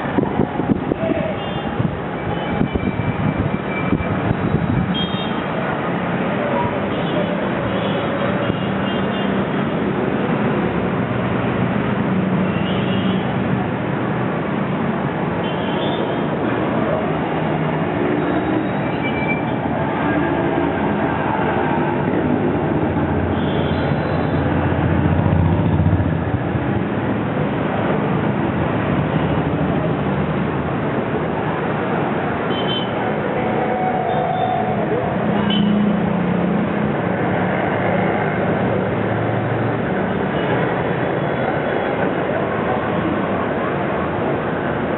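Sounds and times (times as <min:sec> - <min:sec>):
road traffic: 0:00.0 - 0:44.9.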